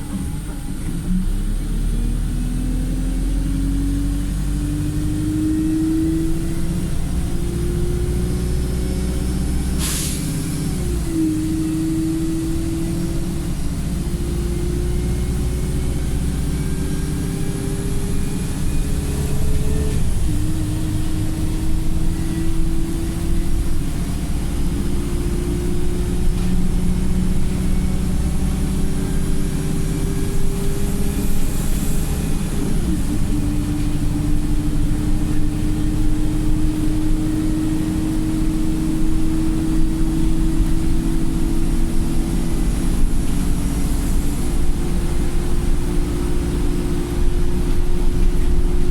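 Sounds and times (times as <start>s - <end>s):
bus engine whine under load: 0.0s - 48.9s.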